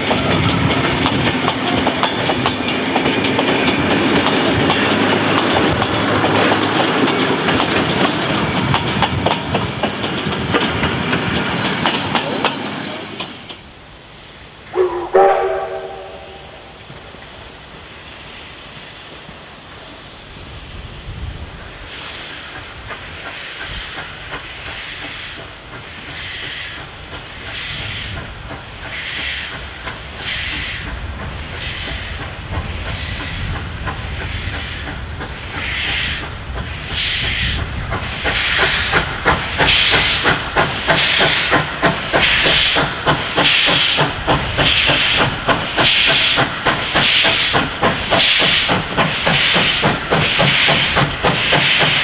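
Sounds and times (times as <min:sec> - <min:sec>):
steam locomotive chuffing: 0:00.0 - 0:52.0.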